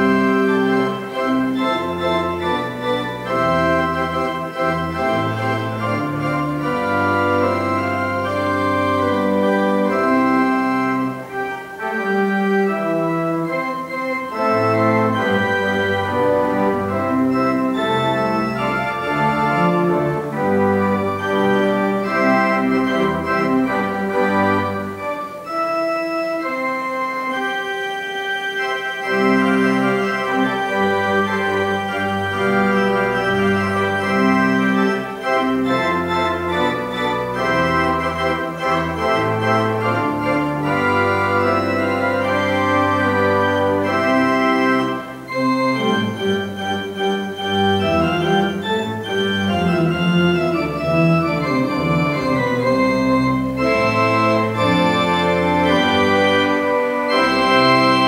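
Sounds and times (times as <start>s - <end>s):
organ music: 0.0s - 58.0s.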